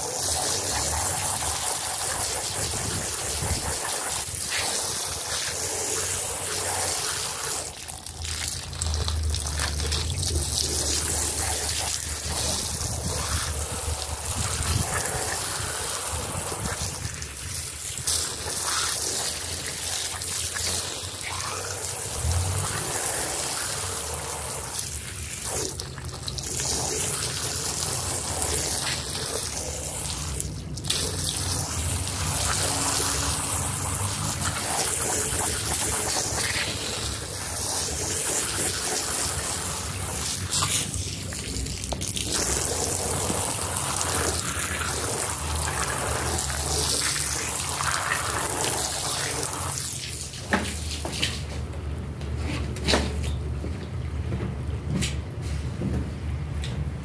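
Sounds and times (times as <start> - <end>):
water jet spraying rug: 0.0 - 53.2.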